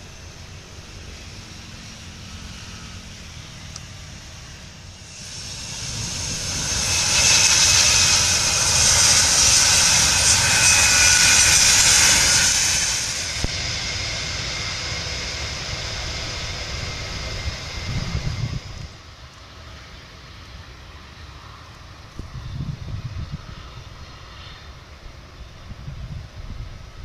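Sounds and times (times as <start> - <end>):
turboprop aircraft engines whining: 0.0 - 27.0.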